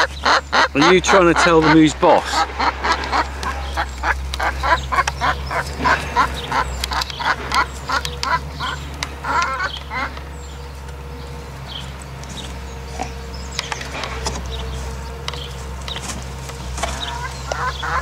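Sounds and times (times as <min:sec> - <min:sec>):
hen clucking: 0:00.0 - 0:18.0.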